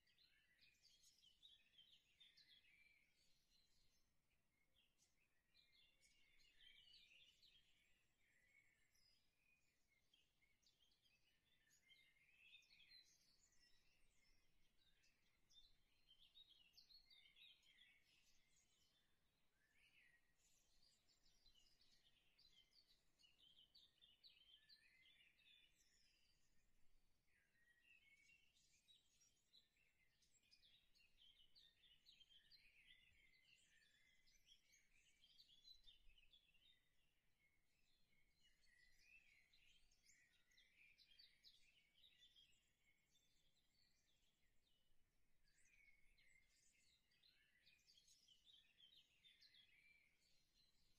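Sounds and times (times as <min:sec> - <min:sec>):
faint high twittering chirps: 0:00.0 - 0:50.9.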